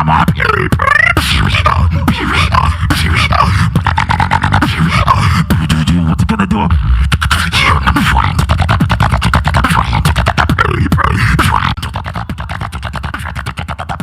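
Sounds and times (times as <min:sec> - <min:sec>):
person beatboxing: 0:00.0 - 0:14.0.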